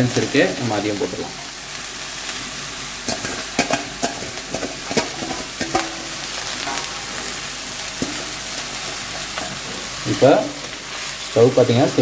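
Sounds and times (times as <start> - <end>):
greens sizzling in hot oil: 0.0 - 12.0.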